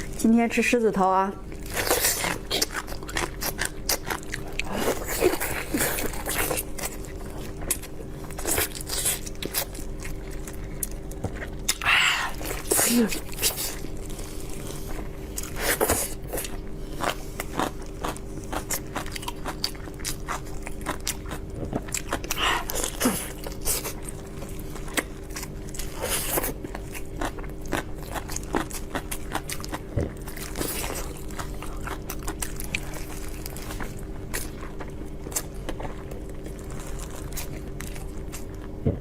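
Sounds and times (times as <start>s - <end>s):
faint steady hum: 0.0s - 39.0s
person chewing crunchy food: 1.4s - 39.0s.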